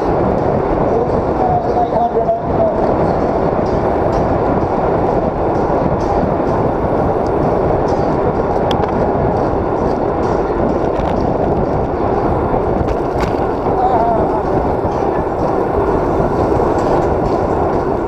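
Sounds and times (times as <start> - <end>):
road noise: 0.0 - 18.0
rushing wind: 0.0 - 18.0.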